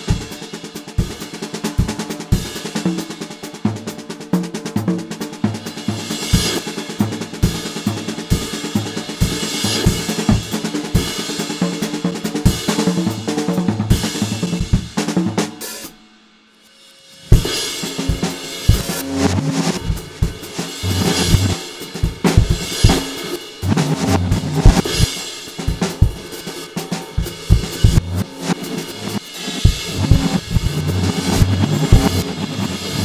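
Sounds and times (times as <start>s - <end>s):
drum kit playing groove: 0.0s - 16.0s, 17.0s - 33.0s.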